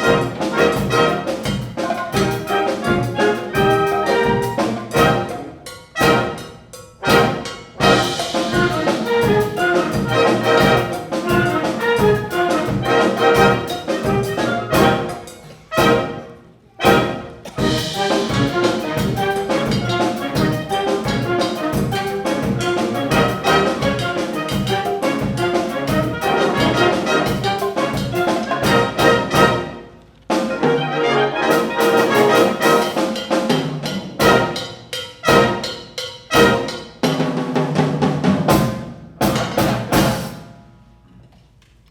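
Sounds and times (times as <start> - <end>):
brass band playing: 0.0 - 40.5.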